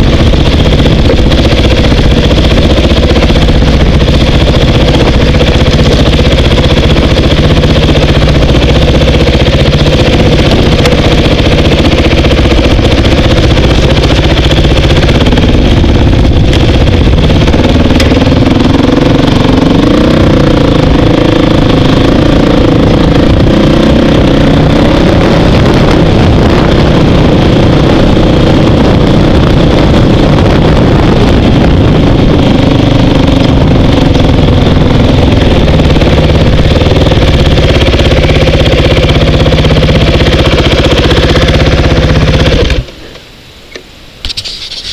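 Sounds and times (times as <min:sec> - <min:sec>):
dirt bike engine revving: 0:00.0 - 0:42.9
heavy low rumble: 0:00.0 - 0:42.9.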